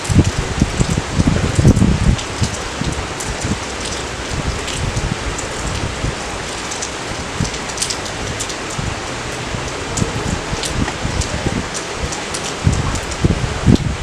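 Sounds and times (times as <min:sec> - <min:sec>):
raindrops ticking and tapping: 0:00.0 - 0:14.0
steady rain hiss: 0:00.0 - 0:14.0.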